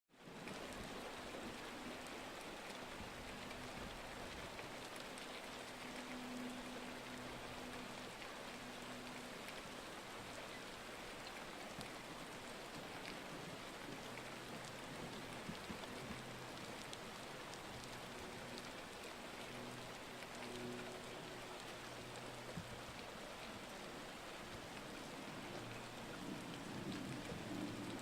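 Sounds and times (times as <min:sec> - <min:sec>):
steady rain: 0:00.1 - 0:28.0.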